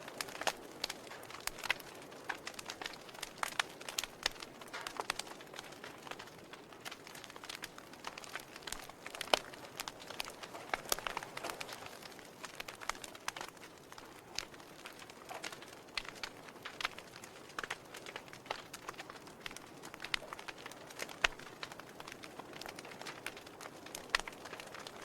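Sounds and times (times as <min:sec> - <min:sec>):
soft fire hiss: 0:00.0 - 0:25.0
wood fire crackling and popping: 0:00.0 - 0:25.0.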